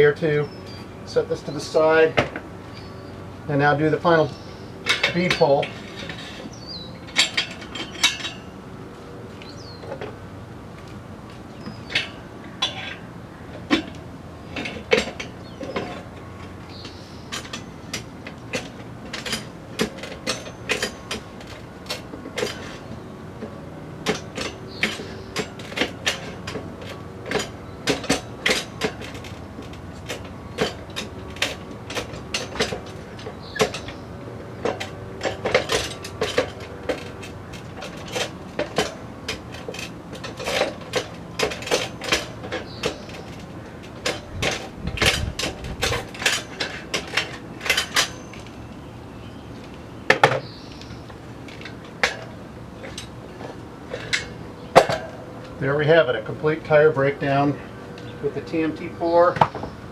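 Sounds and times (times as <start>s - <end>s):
tire spoons clanking on wheel rim: 0.0s - 59.9s.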